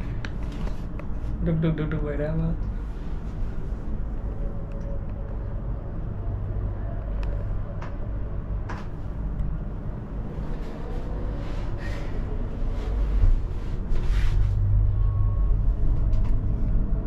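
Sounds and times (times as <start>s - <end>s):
cable car gondola rumble: 0.0s - 17.0s.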